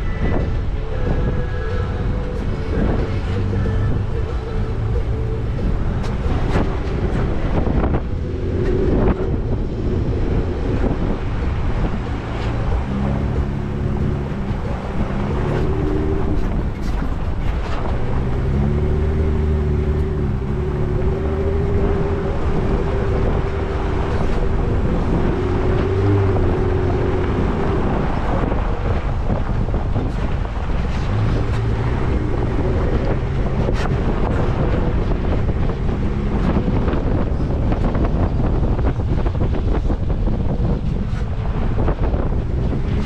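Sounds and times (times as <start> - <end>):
road noise: 0.0 - 43.0
vehicle engine hum: 0.0 - 43.0
wind buffeting microphone: 0.0 - 43.0.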